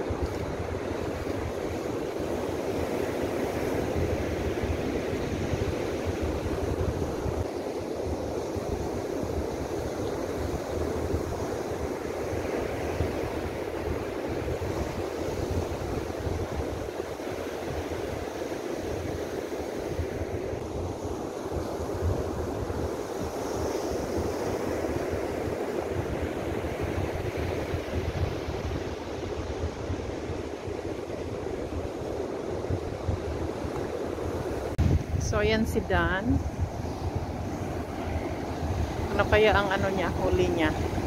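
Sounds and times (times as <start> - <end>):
ocean surf breaking: 0.0 - 41.0
wind buffeting microphone: 0.0 - 41.0.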